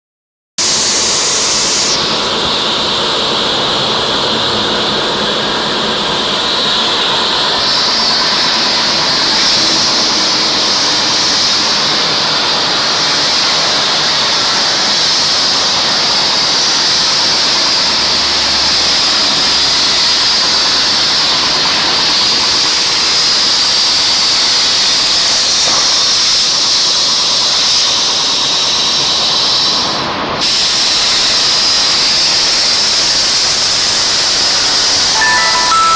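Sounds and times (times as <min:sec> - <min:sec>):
plasma torch cutting hiss: 0:00.6 - 0:35.0.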